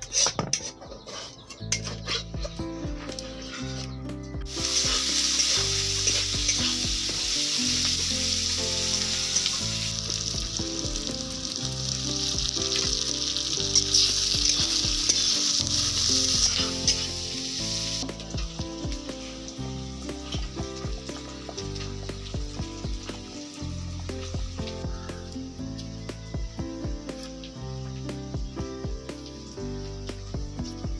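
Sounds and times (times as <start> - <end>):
chicken sizzling in hot oil: 1.0 - 30.9.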